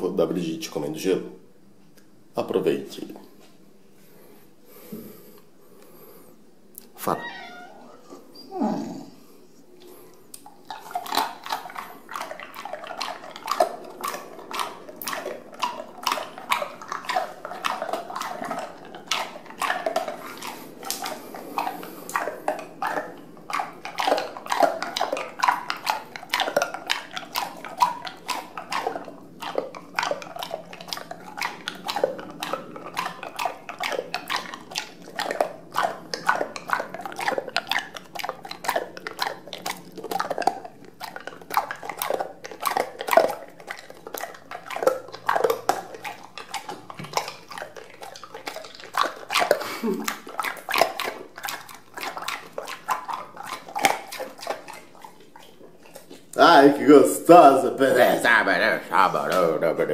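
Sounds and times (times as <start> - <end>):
dog crunching ice cubes: 10.4 - 59.8.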